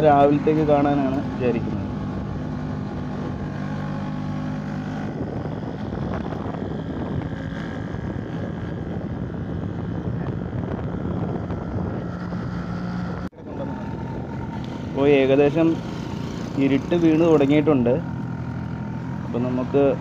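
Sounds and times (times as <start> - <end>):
road noise: 0.0 - 20.0
small motorcycle engine running: 0.0 - 20.0
wind: 0.0 - 20.0.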